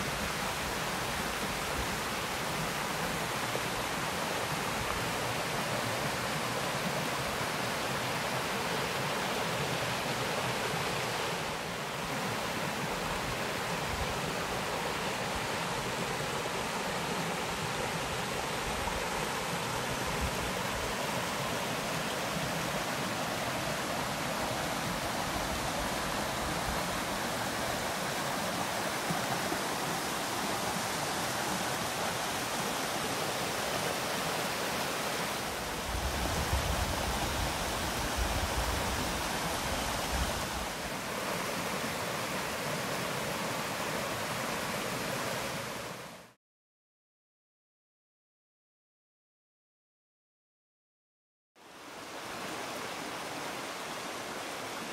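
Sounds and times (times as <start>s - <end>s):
waterfall rushing into pool: 0.0s - 46.4s, 51.6s - 54.9s.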